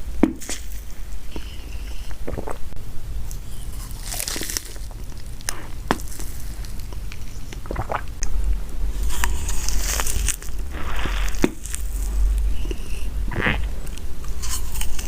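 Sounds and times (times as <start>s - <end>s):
low rumble: 0.0s - 15.0s
snacks crinkling and crunching: 0.2s - 2.6s, 3.2s - 8.4s, 9.0s - 15.0s.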